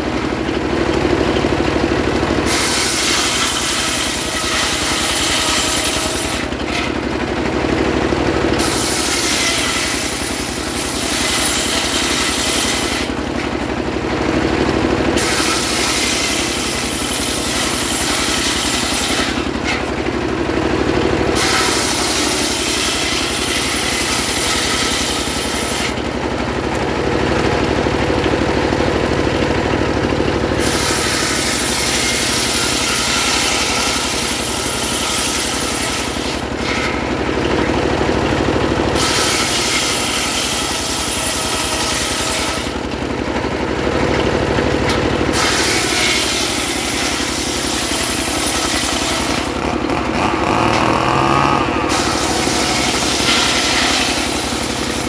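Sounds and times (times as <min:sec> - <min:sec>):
circular saw cutting wood: 0:00.0 - 0:55.0
diesel engine running: 0:00.0 - 0:55.0.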